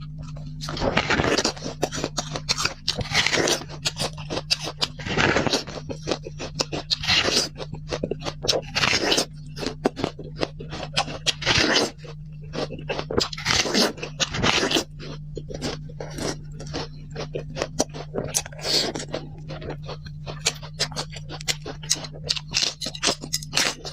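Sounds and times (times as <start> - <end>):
eating crunching and clicking: 0.0 - 23.9
steady low hum: 0.0 - 23.9.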